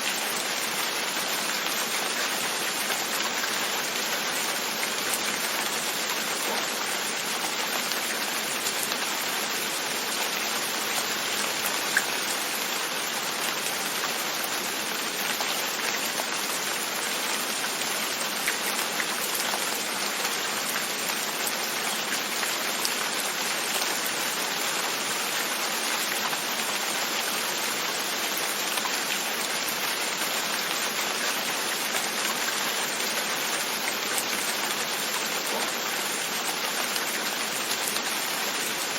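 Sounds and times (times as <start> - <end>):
rain falling on a window: 0.0 - 38.9.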